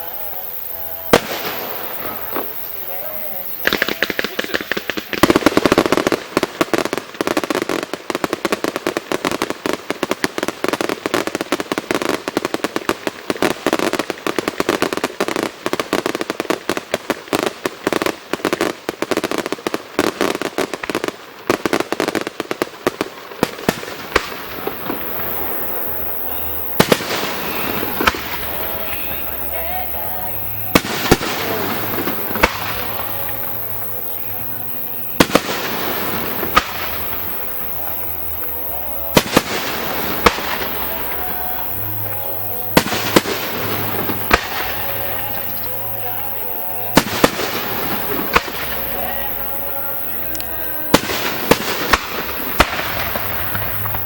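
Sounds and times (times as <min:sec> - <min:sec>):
fireworks crackling: 0:00.0 - 0:54.0.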